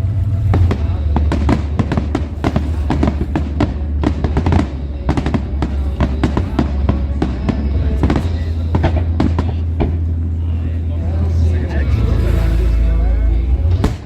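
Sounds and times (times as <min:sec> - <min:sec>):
deep rumble: 0:00.0 - 0:14.0.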